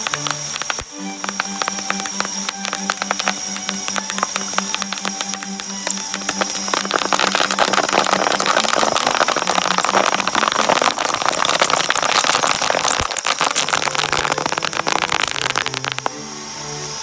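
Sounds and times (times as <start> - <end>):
shredder crackling bubble wrap: 0.0 - 16.1.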